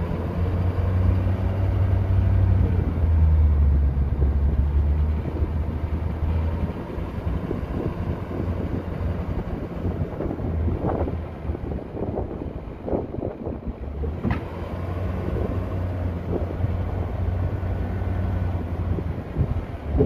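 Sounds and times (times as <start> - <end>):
diesel pickup engine: 0.0 - 20.0
road noise: 0.0 - 20.0.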